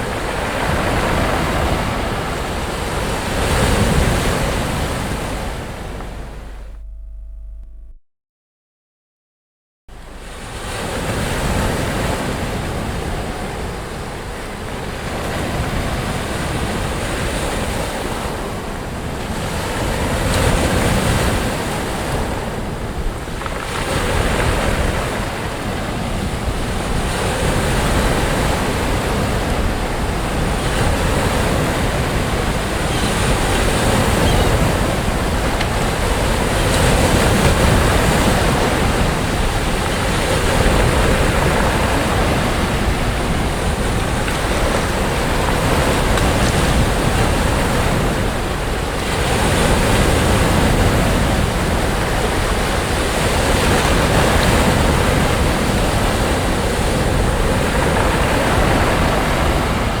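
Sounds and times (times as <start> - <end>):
sea waves breaking on a beach: 0.0 - 7.0, 10.0 - 60.0
wind on the microphone: 10.0 - 60.0.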